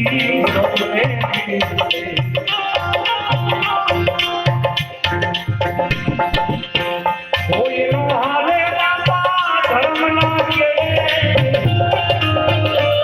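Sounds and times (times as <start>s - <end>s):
devotional melody: 0.0s - 13.0s
tabla drumming: 0.0s - 13.0s.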